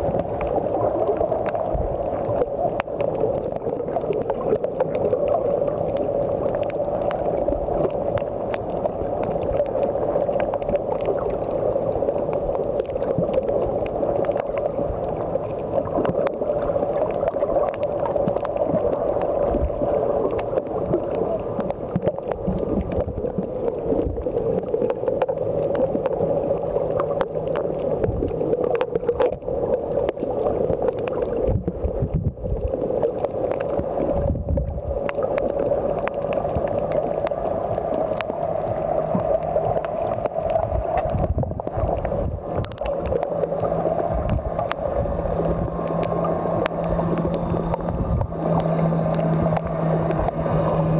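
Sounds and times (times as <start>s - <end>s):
crackling clicks: 0.0s - 50.9s
muffled underwater rush: 0.0s - 50.9s.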